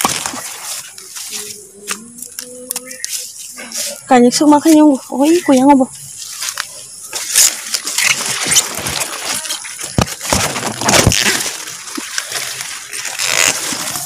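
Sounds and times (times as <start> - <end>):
large leaves rustling: 0.0 - 14.0.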